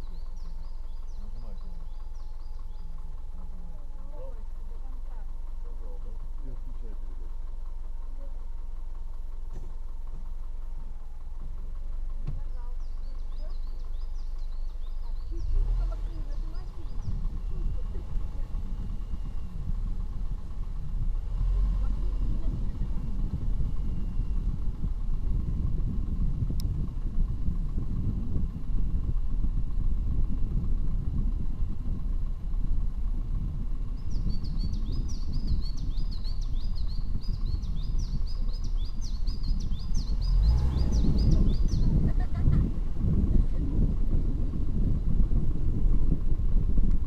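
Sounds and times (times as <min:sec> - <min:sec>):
vehicle rumbling: 0:00.0 - 0:47.0.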